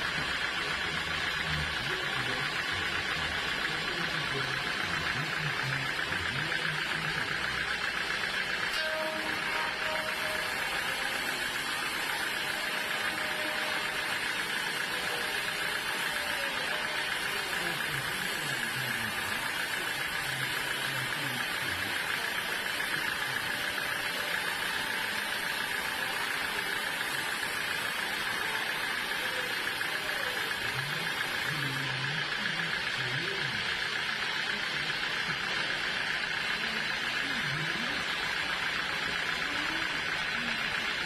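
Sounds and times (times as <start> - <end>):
faint voices: 0.0 - 41.0
sawmill machinery drone: 0.0 - 41.0.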